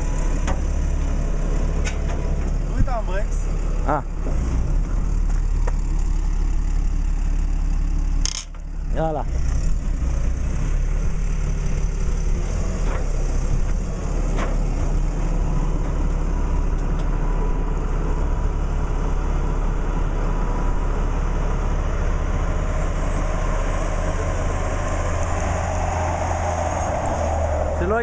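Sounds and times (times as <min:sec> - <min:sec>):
tow truck engine running: 0:00.0 - 0:28.0.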